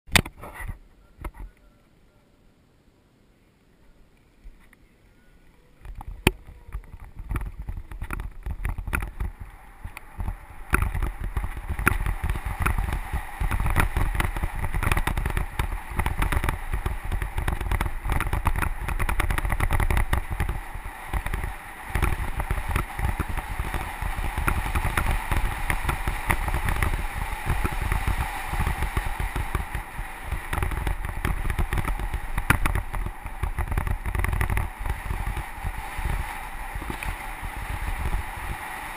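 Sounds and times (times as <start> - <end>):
wind buffeting microphone: 5.7 - 38.9
bike rattling and knocking: 5.8 - 38.6
tyres crunching on gravel: 6.1 - 38.8.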